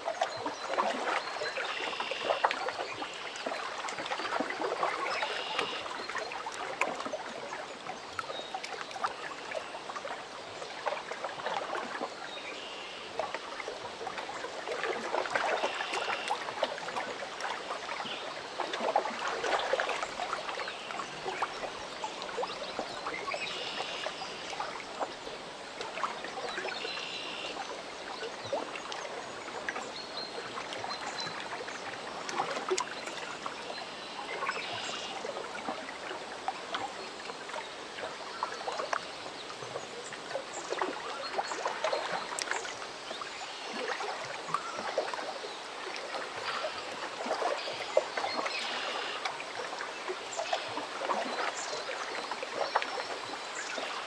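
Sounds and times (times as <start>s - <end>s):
water lapping against shore: 0.0s - 54.0s.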